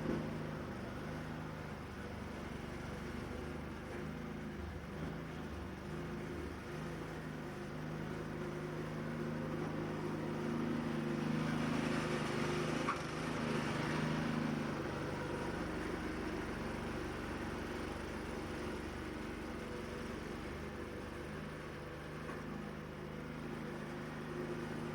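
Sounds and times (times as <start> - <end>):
engine hum: 0.0 - 24.9.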